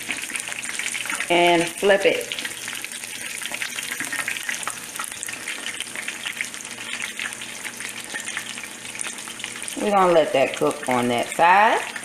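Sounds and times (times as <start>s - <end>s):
chicken deep-frying sizzle: 0.0s - 12.0s.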